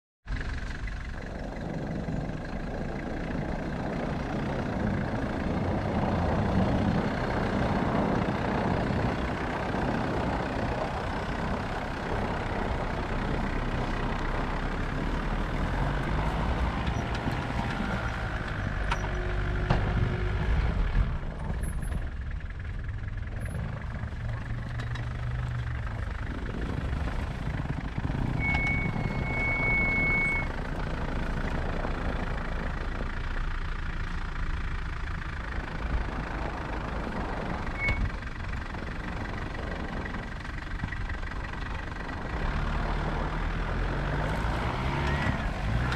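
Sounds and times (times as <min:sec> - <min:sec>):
van engine running: 0:00.2 - 0:45.9.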